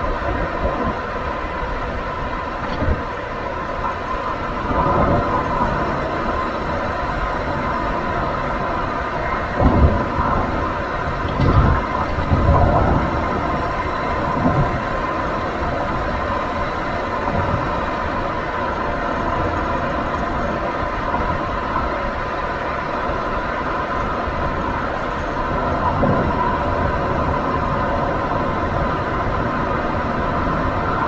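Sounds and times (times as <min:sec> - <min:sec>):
road and tyre rumble: 0:00.0 - 0:31.0.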